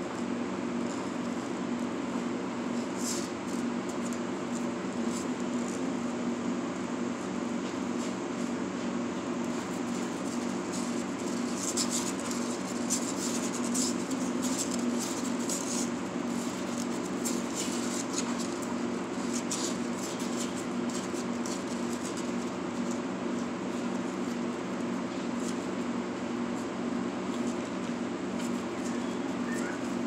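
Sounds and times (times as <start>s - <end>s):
steady low hum: 0.0s - 30.0s
kittens' claws scratching cardboard: 0.1s - 6.3s, 7.0s - 30.0s.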